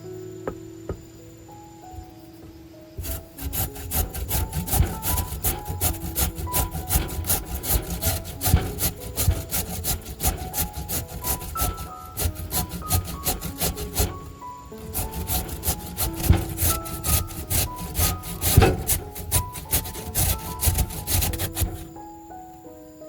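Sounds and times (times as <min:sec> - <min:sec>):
background music: 0:00.0 - 0:23.0
food grating strokes: 0:03.0 - 0:22.0.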